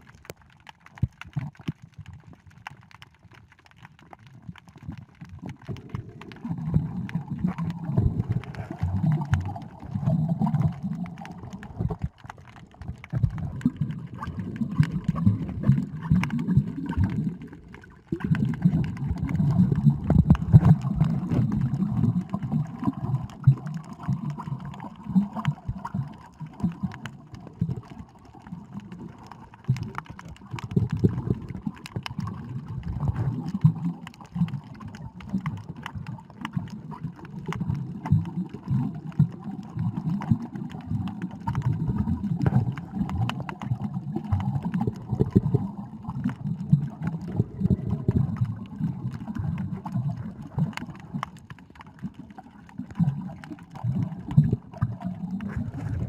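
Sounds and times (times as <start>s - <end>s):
muffled water sloshing and gurgling: 0.0s - 56.0s.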